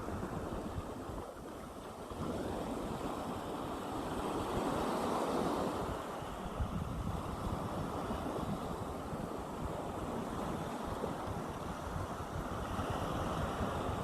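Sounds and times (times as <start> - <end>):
sea waves washing on shore: 0.0 - 14.0
wind rumble on microphone: 0.0 - 14.0.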